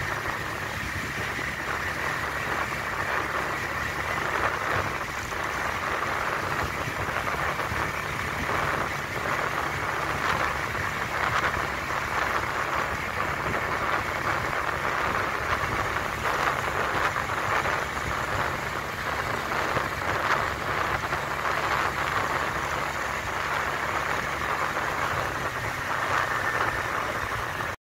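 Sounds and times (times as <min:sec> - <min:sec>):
tyres hissing on asphalt: 0:00.0 - 0:27.8
wind: 0:00.0 - 0:27.8.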